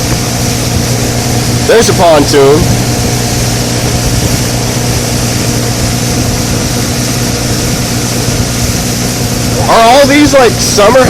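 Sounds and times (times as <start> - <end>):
motorboat engine running: 0.0 - 11.0
rushing water noise: 0.0 - 11.0.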